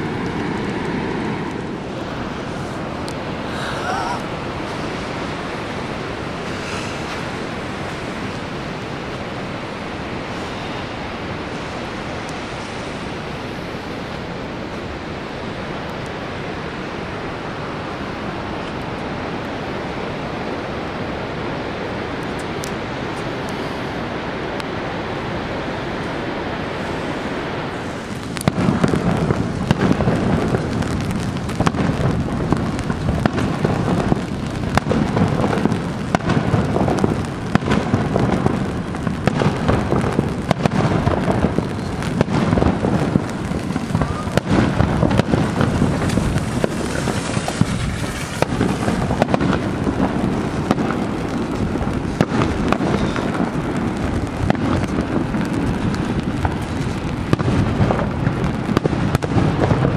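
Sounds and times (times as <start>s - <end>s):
falling water rushing: 0.0s - 59.9s
fireworks bangs and crackles: 0.0s - 59.9s.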